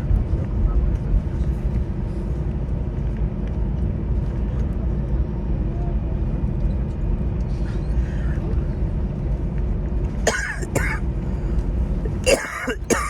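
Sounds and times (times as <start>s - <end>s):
vehicle rumble from inside: 0.0s - 12.3s
faint steady hum: 0.0s - 13.0s.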